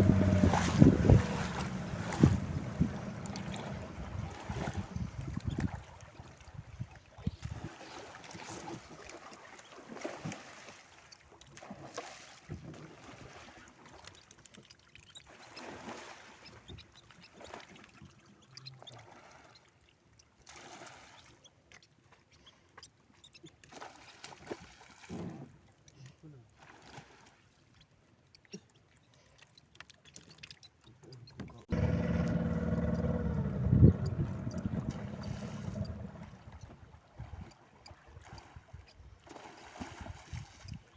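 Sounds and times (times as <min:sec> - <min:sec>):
water sloshing around boat: 0:00.0 - 0:40.9.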